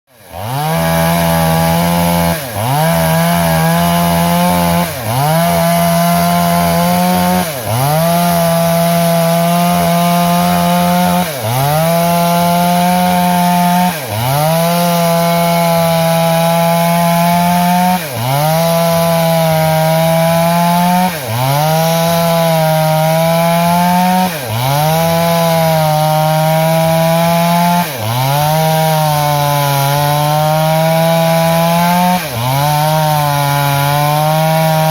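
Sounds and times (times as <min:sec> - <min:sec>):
chainsaw cutting log: 0:00.1 - 0:34.9.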